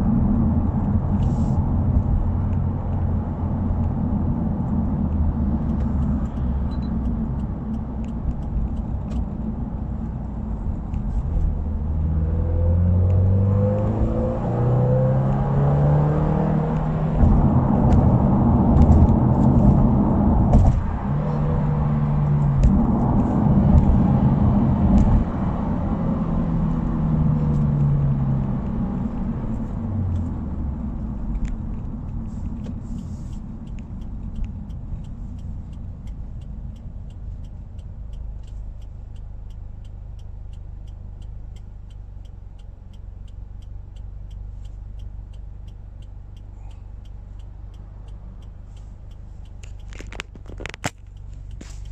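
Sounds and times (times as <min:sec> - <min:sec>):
car engine accelerating: 0:00.0 - 0:51.9
road rumble: 0:00.0 - 0:51.9.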